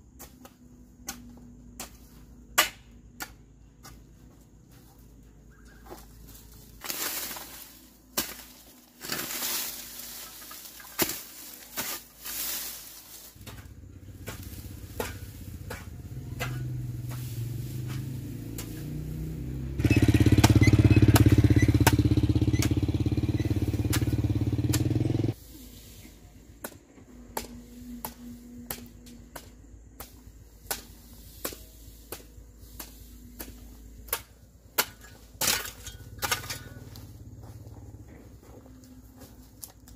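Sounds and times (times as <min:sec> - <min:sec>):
hoe chopping dry soil: 0:00.0 - 0:04.8, 0:05.5 - 0:25.4, 0:26.6 - 0:37.2
engine running: 0:03.2 - 0:29.4, 0:30.1 - 0:39.9.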